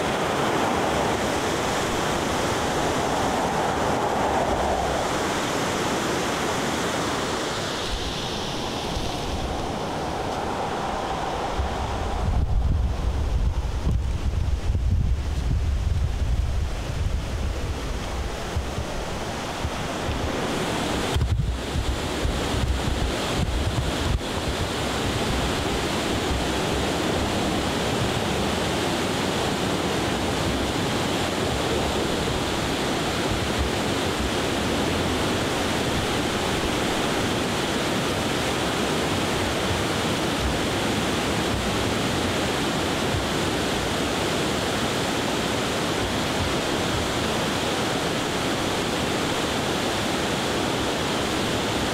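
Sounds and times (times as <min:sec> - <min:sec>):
river rushing: 0:00.0 - 0:51.9
wind buffeting microphone: 0:00.0 - 0:51.9.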